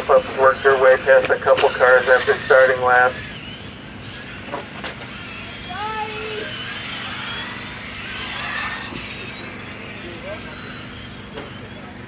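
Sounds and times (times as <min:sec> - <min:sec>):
rc car motors whining: 0:00.0 - 0:12.0
steady low hum: 0:00.0 - 0:12.0.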